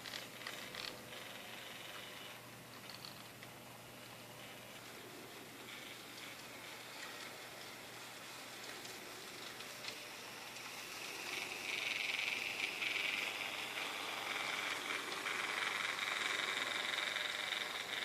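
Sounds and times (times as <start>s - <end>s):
model train wheels rattling: 0.0s - 18.0s.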